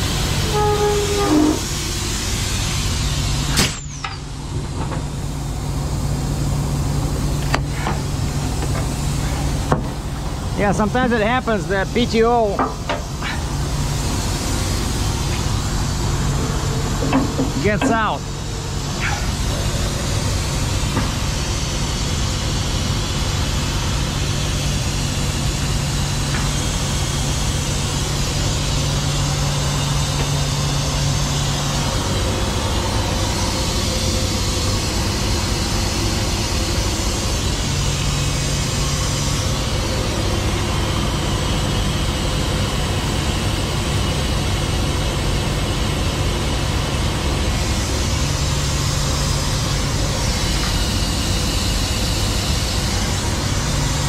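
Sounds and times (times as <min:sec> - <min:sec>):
diesel truck engine idling: 0:00.0 - 0:54.0
strong low hum: 0:00.0 - 0:54.0.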